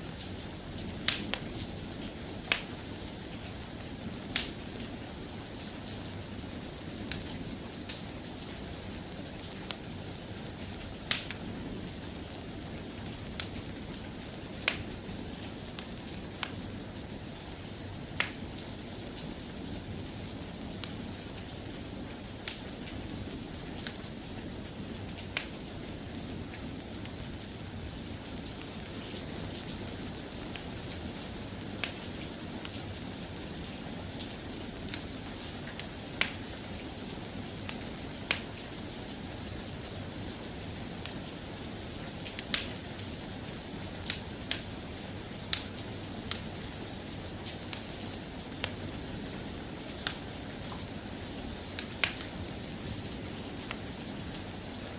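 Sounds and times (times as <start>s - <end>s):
soft rain: 0.0s - 54.9s.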